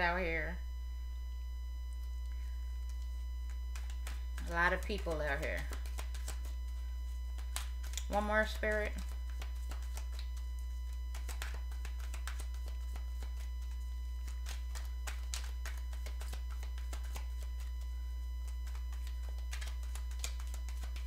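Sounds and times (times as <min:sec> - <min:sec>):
low hum: 0:00.0 - 0:21.0
cards tapping and rustling: 0:02.9 - 0:06.6, 0:07.3 - 0:21.0.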